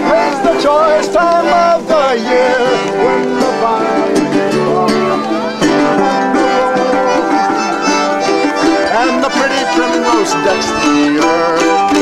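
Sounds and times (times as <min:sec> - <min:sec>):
plucked banjo: 0:00.0 - 0:12.0
voices singing folk song: 0:00.0 - 0:12.0.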